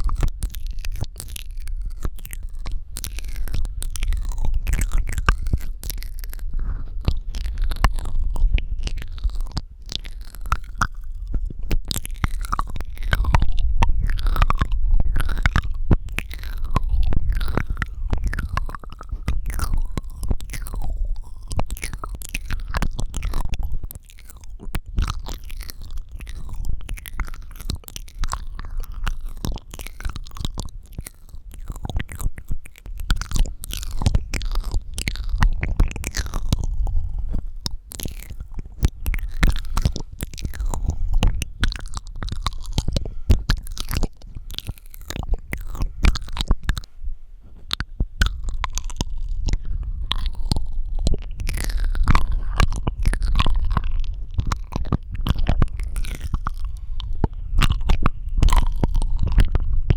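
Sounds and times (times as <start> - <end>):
breathy low rumble: 0.0 - 59.9
wet mouth clicks and smacking: 0.0 - 59.9.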